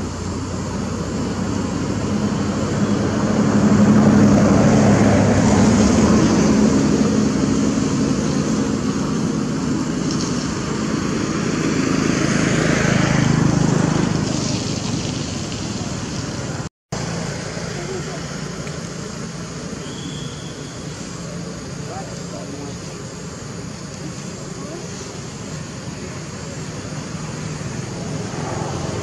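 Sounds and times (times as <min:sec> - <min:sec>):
passing vehicle engine drone: 0:00.0 - 0:29.0.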